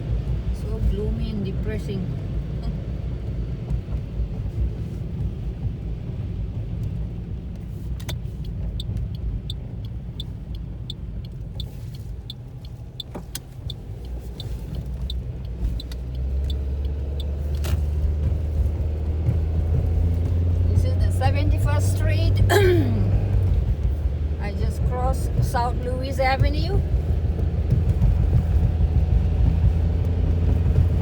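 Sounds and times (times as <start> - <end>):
car engine and tyre rumble: 0.0 - 31.0
light regular ticking: 2.6 - 31.0.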